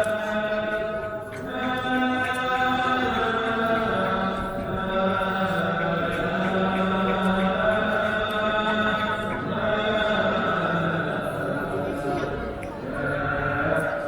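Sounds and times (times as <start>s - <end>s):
voices chanting: 0.0s - 14.0s.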